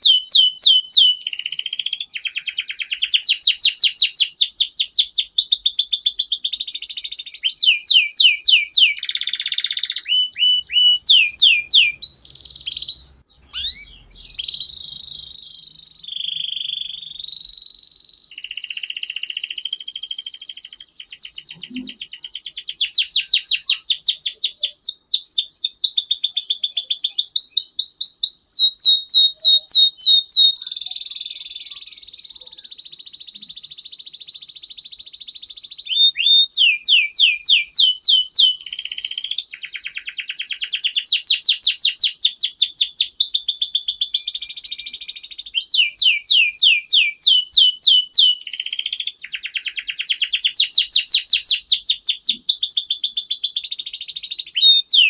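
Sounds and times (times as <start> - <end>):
canary held whistle: 0.0 - 55.0
canary singing fast trills: 0.0 - 55.0.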